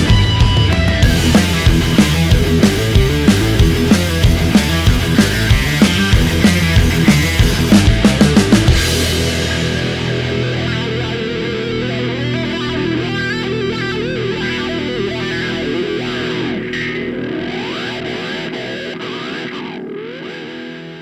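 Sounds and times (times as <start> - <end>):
distorted electric guitar music: 0.0 - 21.0.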